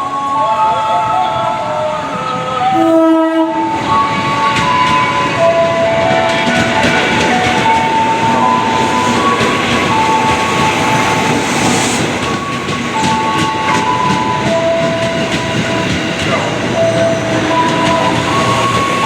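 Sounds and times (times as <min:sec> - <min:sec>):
train wheels rumbling: 0:00.0 - 0:19.0
wheels clacking over rail joints: 0:03.6 - 0:19.0.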